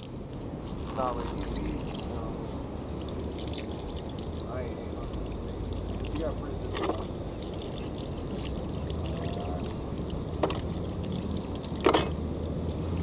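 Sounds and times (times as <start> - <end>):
water from hose splashing: 0.0 - 13.0.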